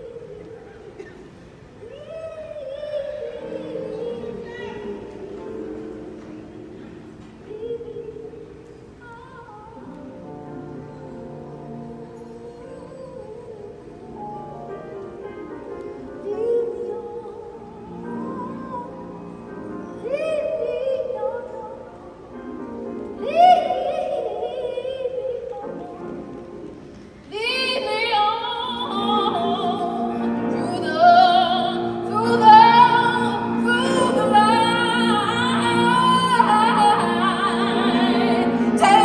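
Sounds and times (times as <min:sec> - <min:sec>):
woman singing with vibrato: 0:00.0 - 0:01.2, 0:01.8 - 0:39.0.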